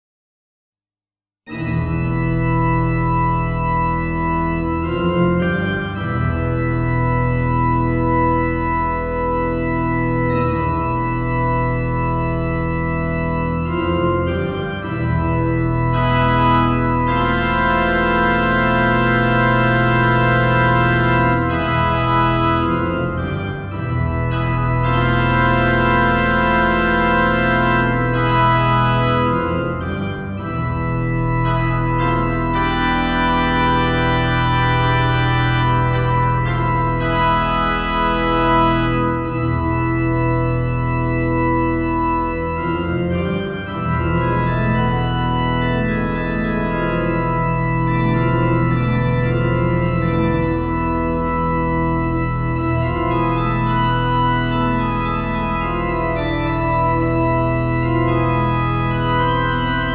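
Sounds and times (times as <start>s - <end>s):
organ chords: 1.5s - 59.9s.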